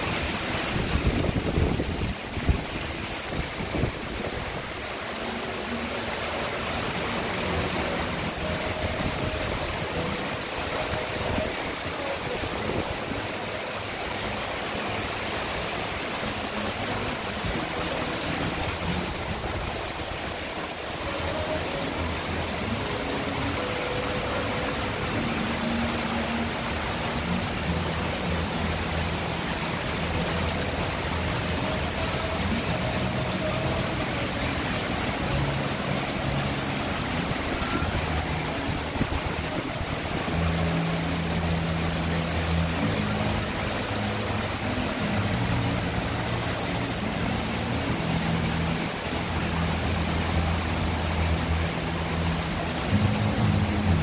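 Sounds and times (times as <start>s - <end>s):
heavy rain on water and deck: 0.0s - 54.0s.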